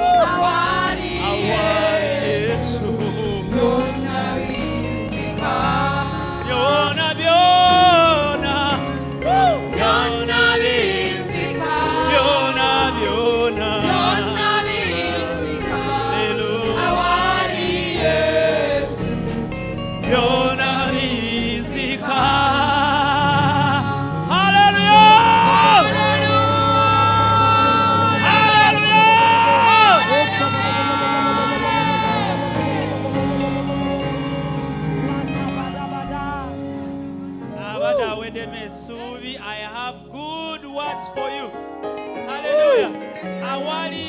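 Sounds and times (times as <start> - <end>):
choir singing with vibrato: 0.0 - 44.0
instrumental backing: 0.0 - 44.0.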